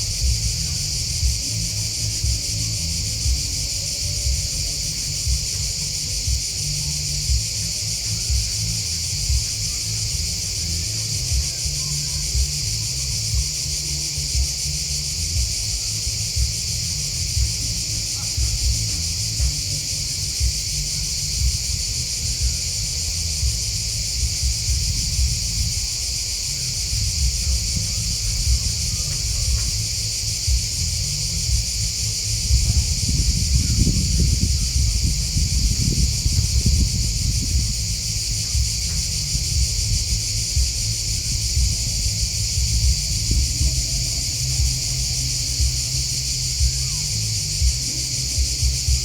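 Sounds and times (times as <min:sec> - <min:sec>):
insects chirping: 0:00.0 - 0:49.0
low rumble: 0:00.0 - 0:49.0.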